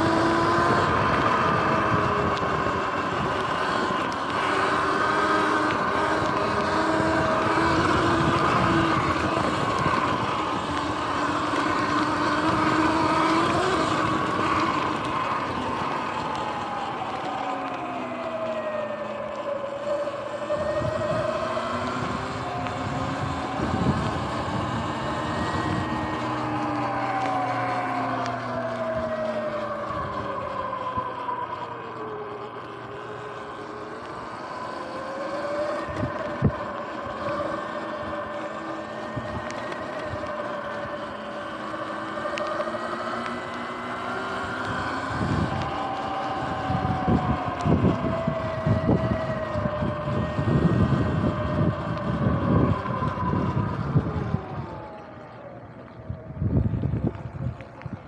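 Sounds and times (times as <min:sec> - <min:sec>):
wind noise on microphone: 0:00.0 - 0:17.5, 0:19.7 - 0:31.5, 0:34.2 - 0:58.0
electric motor whining: 0:00.0 - 0:58.0
thumps and buffets: 0:00.0 - 0:58.0.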